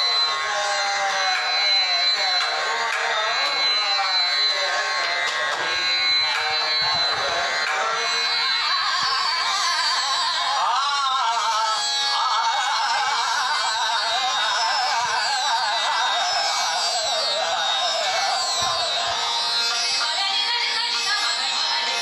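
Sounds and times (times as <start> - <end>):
tanpura drone: 0.0 - 22.0.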